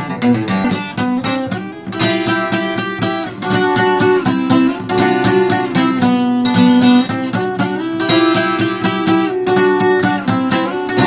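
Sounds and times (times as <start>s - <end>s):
twelve-string guitar strummed chords: 0.0s - 11.0s.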